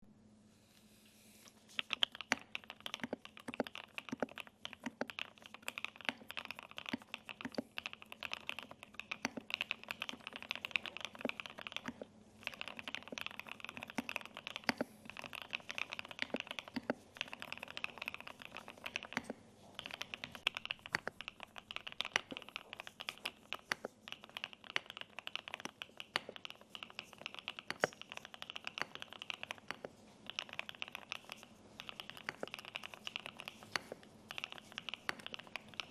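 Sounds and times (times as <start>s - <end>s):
mechanical keyboard typing: 1.8s - 35.9s.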